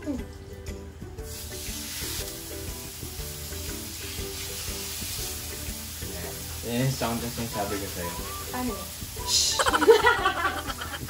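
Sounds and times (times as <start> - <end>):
steak sizzling in grill pan: 1.2 - 11.0.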